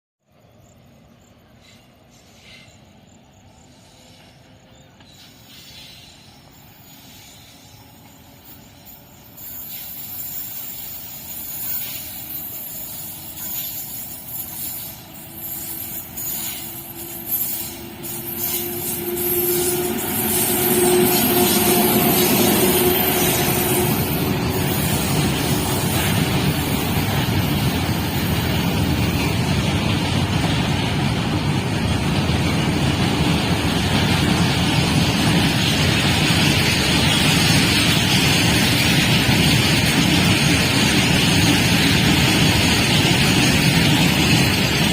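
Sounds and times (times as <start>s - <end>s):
train passing at speed: 0.3s - 44.9s
wheels rushing on track: 1.2s - 44.9s.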